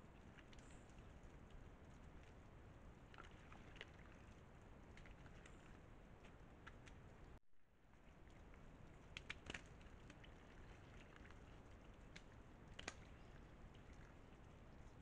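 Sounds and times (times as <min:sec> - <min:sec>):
soft clicks and crackles: 0:00.0 - 0:15.0.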